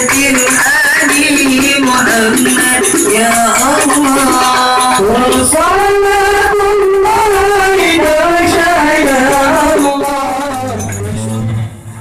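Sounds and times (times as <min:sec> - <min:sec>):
person singing long sliding notes: 0:00.0 - 0:11.9
instrumental backing: 0:00.0 - 0:12.0.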